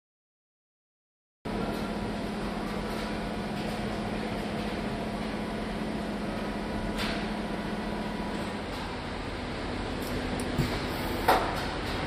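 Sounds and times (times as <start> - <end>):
machinery hum: 1.5 - 12.0.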